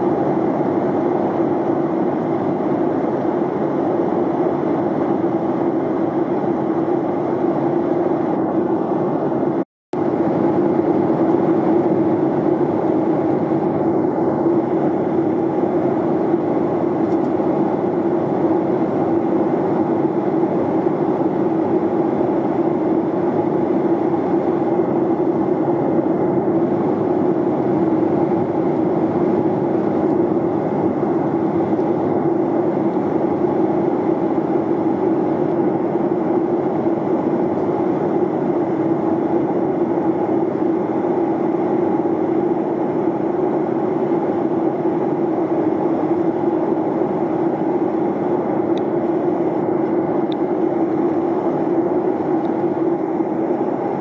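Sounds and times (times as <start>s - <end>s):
airflow rushing over aircraft: 0.0s - 54.0s
jet engines droning: 0.0s - 54.0s.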